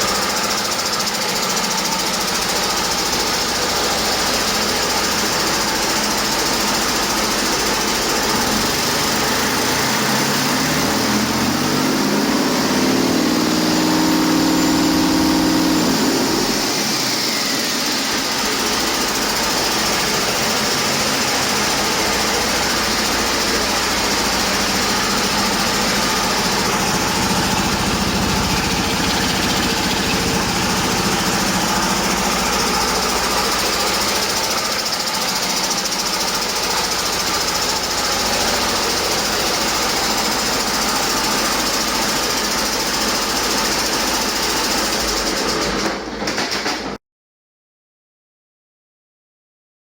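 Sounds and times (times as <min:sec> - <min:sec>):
diesel engine running: 0:00.0 - 0:45.7.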